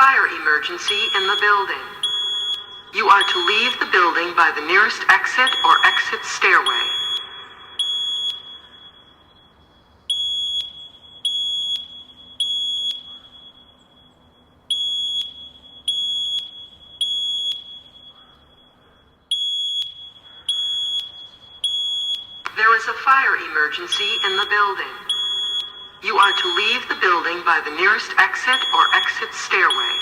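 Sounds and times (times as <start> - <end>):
fire alarm beeps: 0.0 - 30.0.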